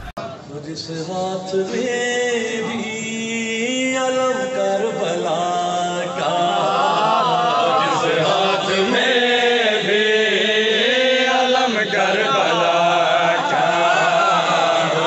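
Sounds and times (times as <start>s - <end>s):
man chanting into microphone: 0.4s - 15.0s.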